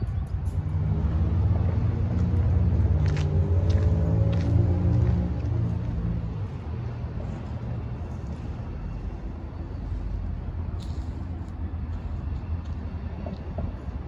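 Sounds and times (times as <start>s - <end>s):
cars driving past: 0.0s - 14.0s
steady low rumble: 0.0s - 14.0s.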